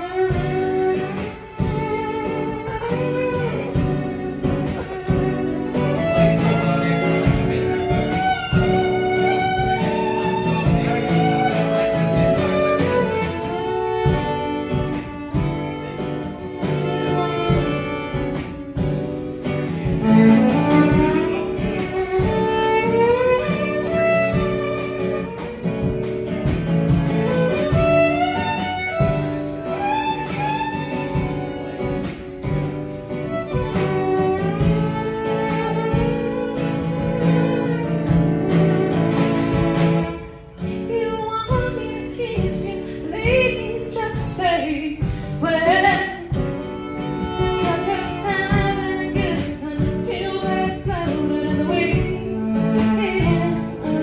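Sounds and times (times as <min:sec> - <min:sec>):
drum kit: 0:00.0 - 0:54.0
fiddle: 0:00.0 - 0:54.0
strummed acoustic guitar: 0:00.0 - 0:54.0.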